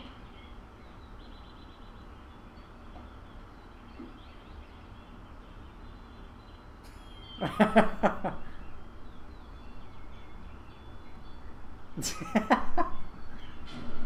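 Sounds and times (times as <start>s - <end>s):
faint high chirps: 0.0s - 13.7s.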